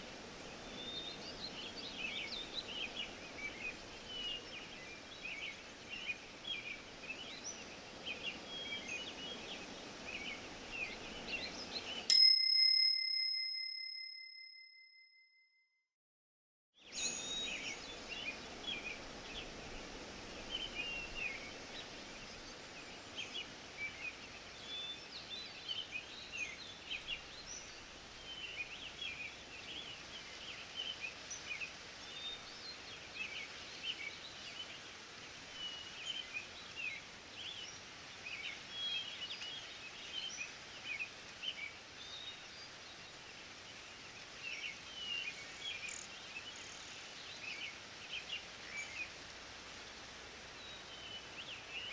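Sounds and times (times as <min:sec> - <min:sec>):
small birds chirping: 0:00.0 - 0:12.1, 0:16.9 - 0:51.9
breeze in leaves: 0:00.0 - 0:12.3, 0:16.8 - 0:51.9.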